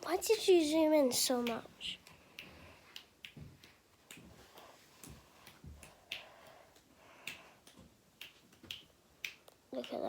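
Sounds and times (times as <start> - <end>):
faint irregular clicks and ticks: 0.0 - 10.0.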